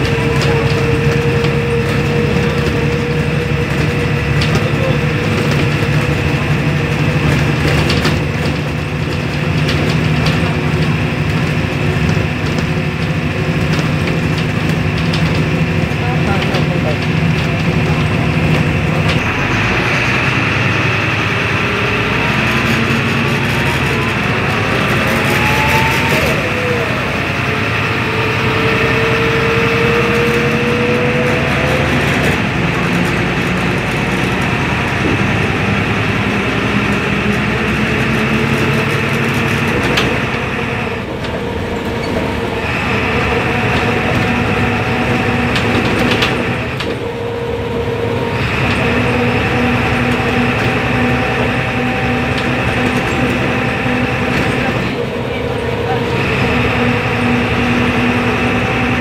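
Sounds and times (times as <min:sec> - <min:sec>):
bus diesel engine running: 0:00.0 - 0:59.0
rising engine whine: 0:00.0 - 0:59.0.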